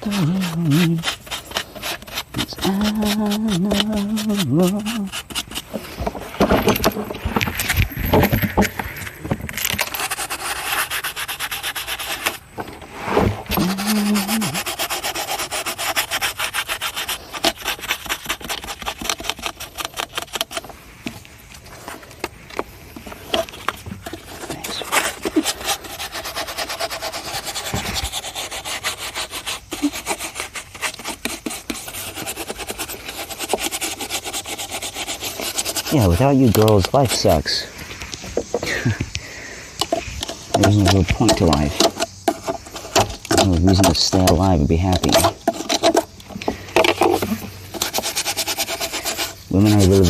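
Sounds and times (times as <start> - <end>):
scraping and rubbing on plastic: 0.0 - 50.0.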